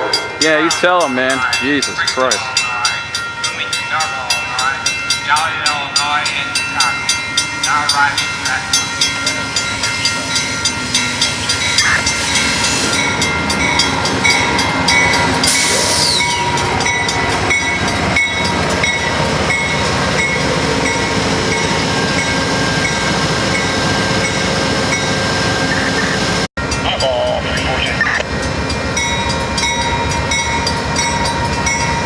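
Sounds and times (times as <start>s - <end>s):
train rolling rumble: 0.0s - 32.0s.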